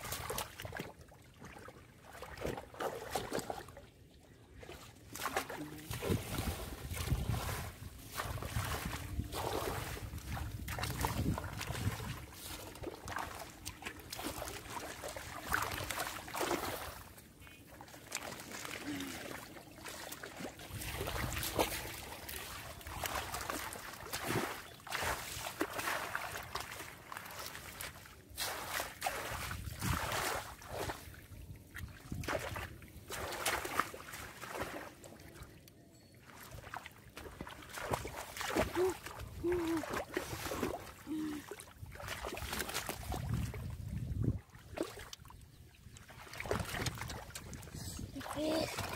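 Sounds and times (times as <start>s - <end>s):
muddy water sloshing and splashing: 0.0s - 48.9s.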